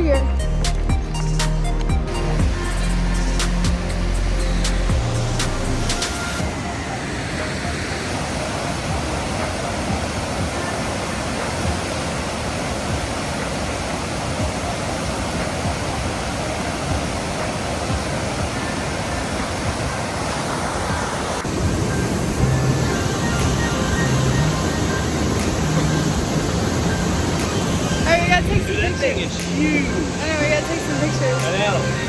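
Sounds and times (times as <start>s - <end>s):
waterfall roaring: 2.1s - 32.0s.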